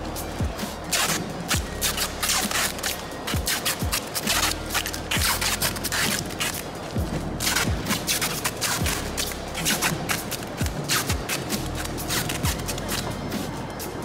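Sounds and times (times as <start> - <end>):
music with deep kick drum: 0.0 - 14.0.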